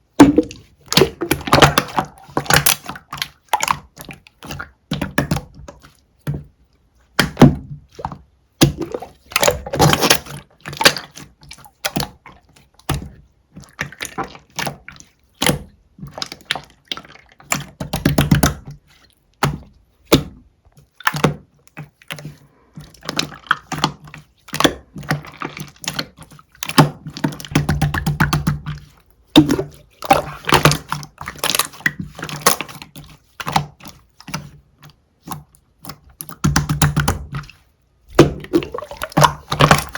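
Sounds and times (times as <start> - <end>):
slime squished by hand: 7.1 - 34.5, 35.2 - 39.9.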